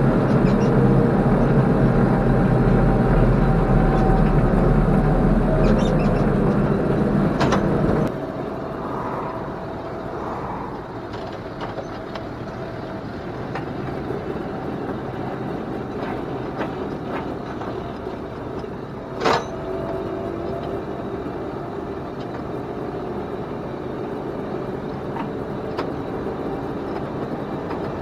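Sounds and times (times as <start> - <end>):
tractor engine rumble: 0.0 - 28.0.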